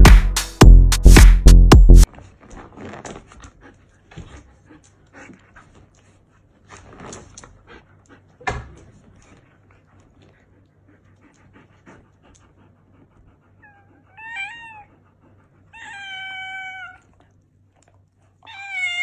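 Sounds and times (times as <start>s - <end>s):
dog panting: 2.0s - 18.6s.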